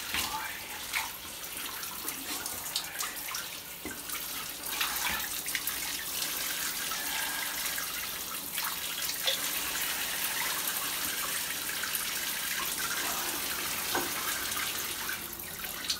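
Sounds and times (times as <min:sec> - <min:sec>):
shower water running: 0:00.0 - 0:15.9.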